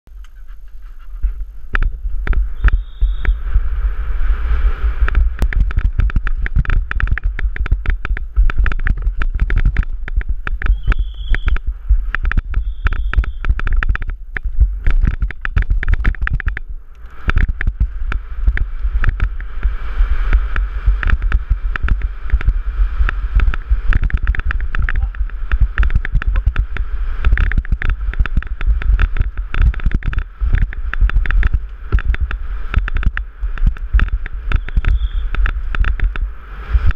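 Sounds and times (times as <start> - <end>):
wind buffeting microphone: 0.1 - 36.9
bike rattling over bumps: 1.2 - 36.9.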